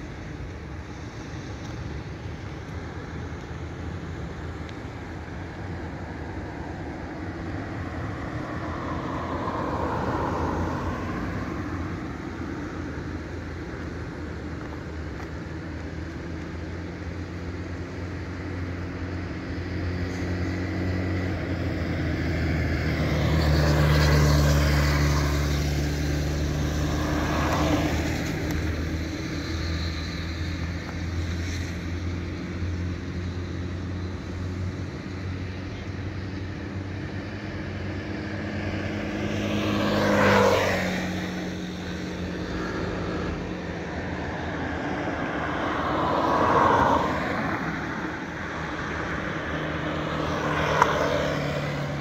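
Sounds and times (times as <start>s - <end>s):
heavy vehicle engines humming: 0.0s - 52.0s
vehicles passing by: 0.0s - 52.0s.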